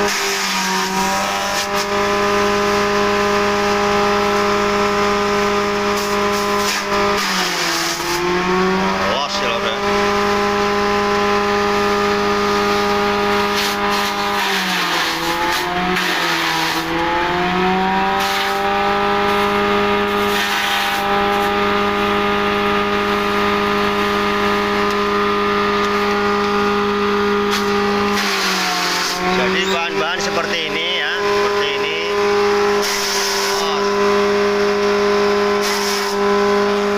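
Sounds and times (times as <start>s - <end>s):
electric grass chopper whining: 0.0s - 36.9s
grass being shredded: 0.0s - 36.9s.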